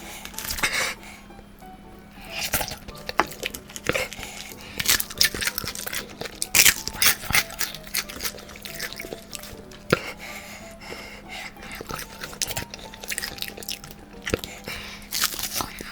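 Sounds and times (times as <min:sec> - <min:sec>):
crunchy chewing: 0:02.1 - 0:15.9.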